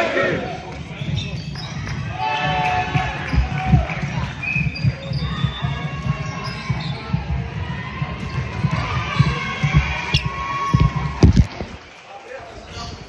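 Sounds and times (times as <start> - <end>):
sneakers squeaking on floor: 0.8 - 11.5
basketball bouncing: 1.0 - 11.7.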